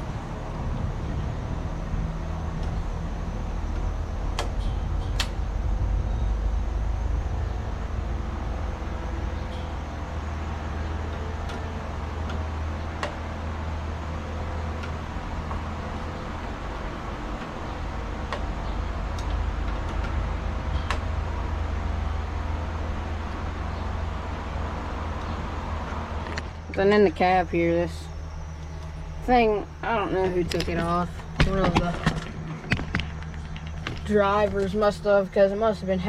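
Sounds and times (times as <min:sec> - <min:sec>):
engine humming: 0:00.0 - 0:36.0.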